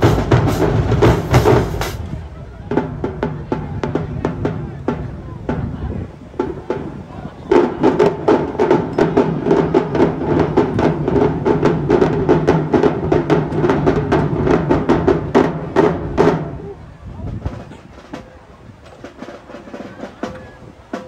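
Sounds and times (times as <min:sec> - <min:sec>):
marching drumline: 0:00.0 - 0:21.0.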